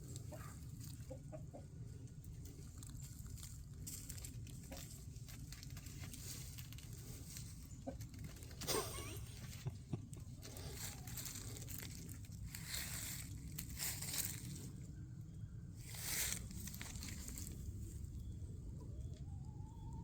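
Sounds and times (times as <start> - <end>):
rustling and crunching: 0.0 - 1.3, 2.0 - 15.0, 15.7 - 18.3
steady low hum: 0.0 - 20.0.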